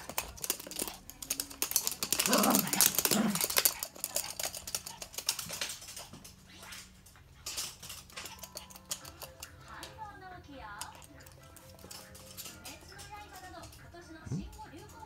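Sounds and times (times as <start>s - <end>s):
dog claws clicking on wooden floor: 0.0s - 6.4s, 7.1s - 15.0s.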